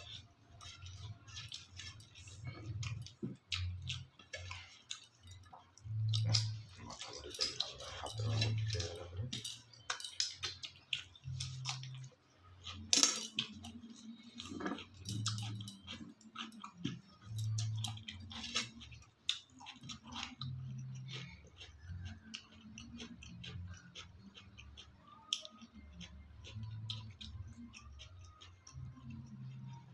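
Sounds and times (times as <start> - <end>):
person chewing: 0.0 - 29.9.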